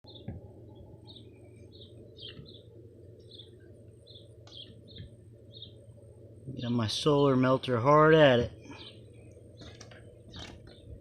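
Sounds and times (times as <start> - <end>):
small birds chirping: 0.0 - 11.0
low background rumble: 0.1 - 11.0.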